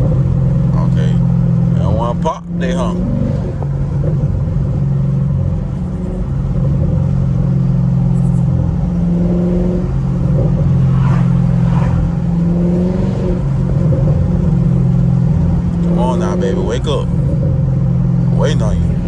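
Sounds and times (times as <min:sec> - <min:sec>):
car exhaust droning: 0:00.0 - 0:19.0.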